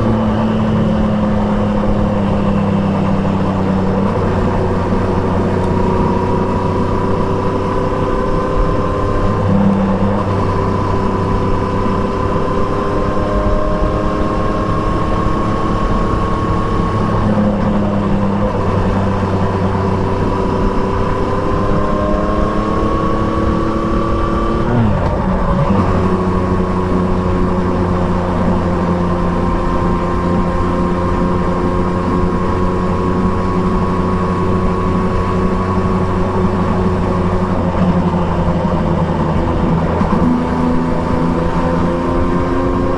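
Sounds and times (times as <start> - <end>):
gear changes: 0.0 - 42.9
motorcycle engine accelerating: 0.0 - 42.9.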